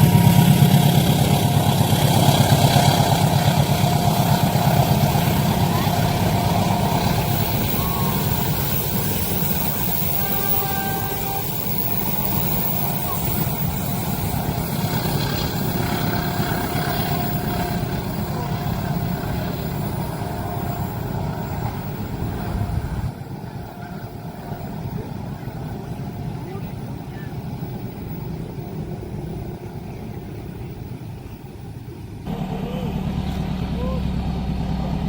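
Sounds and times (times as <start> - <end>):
train rumbling over crossing: 0.0 - 35.0.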